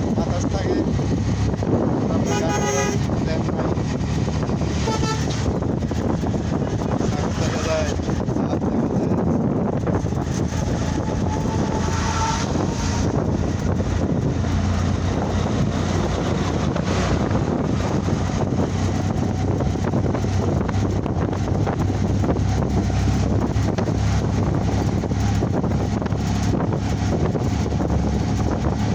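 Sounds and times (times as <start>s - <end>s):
vehicle rumbling along road: 0.0s - 28.9s.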